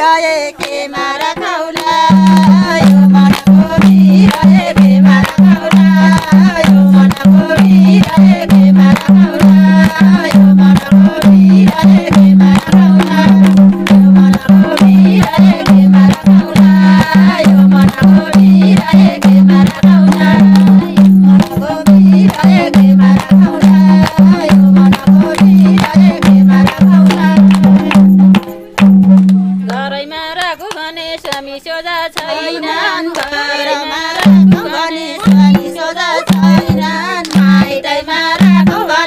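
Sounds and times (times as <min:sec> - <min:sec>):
women singing folk song: 0:00.0 - 0:28.0, 0:29.5 - 0:39.0
hand-clapping: 0:00.2 - 0:39.0
hand drum beat: 0:00.6 - 0:29.9, 0:32.2 - 0:39.0.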